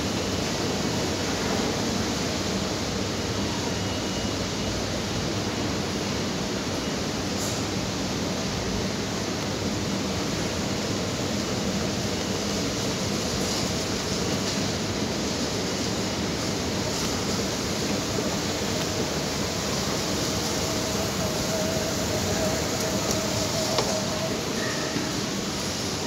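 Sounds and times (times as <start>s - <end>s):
shopping mall background noise: 0.0s - 26.0s.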